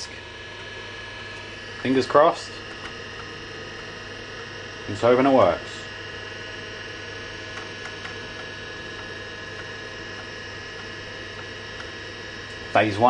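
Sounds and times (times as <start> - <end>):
computer electrical hum: 0.0 - 13.0
floppy drive ticks: 1.3 - 12.8.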